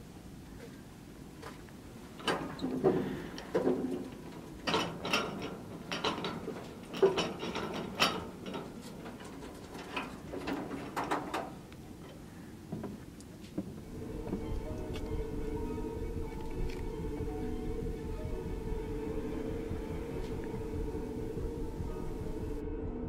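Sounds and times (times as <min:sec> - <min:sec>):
shelving carriage rattling and clicking: 0:02.1 - 0:22.6.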